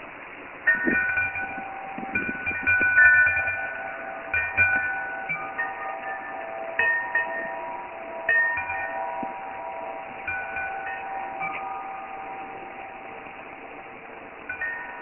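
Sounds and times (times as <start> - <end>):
wind chime ringing: 0.6 - 15.0.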